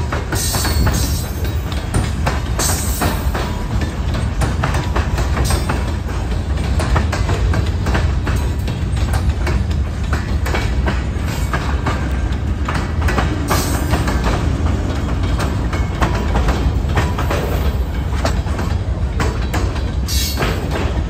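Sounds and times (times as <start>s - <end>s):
freight train rumbling past: 0.0s - 21.0s
wheels clicking over rail joints: 0.0s - 21.0s.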